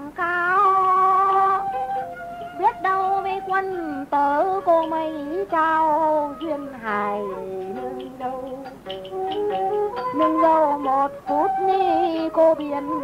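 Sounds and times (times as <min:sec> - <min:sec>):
person singing: 0:00.0 - 0:13.0
ritual music with sliding notes: 0:00.0 - 0:13.0.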